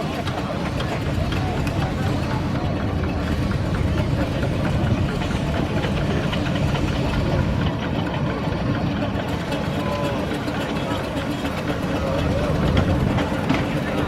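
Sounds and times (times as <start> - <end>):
clatter of working parts: 0.0 - 14.0
steam traction engine rumble: 0.0 - 14.0.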